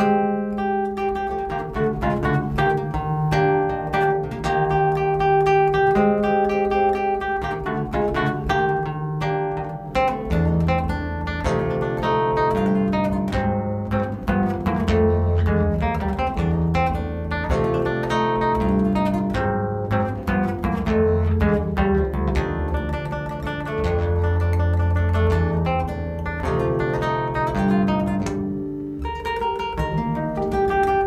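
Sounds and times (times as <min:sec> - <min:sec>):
fingerstyle nylon-string guitar: 0:00.0 - 0:31.0.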